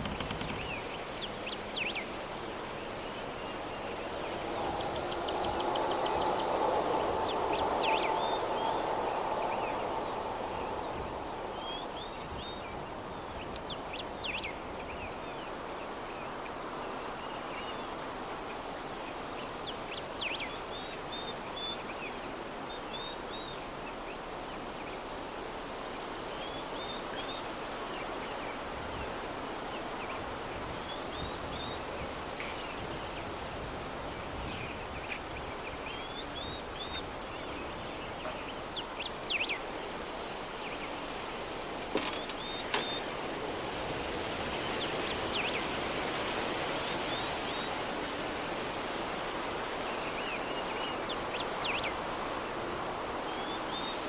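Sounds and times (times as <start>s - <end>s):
soft breeze: 0.0s - 54.0s.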